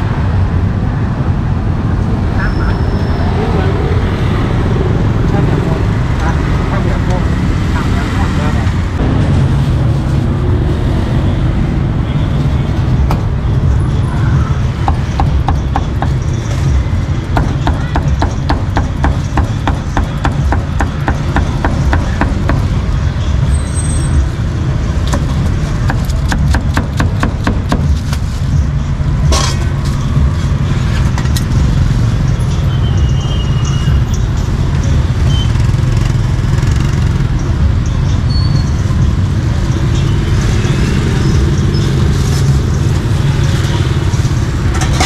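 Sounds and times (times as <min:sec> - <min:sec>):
street traffic rumble: 0:00.0 - 0:45.0.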